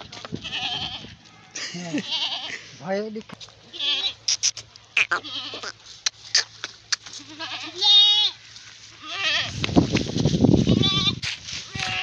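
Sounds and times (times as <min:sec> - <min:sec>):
goats bleating: 0:00.4 - 0:02.8, 0:03.6 - 0:09.6, 0:10.6 - 0:12.0.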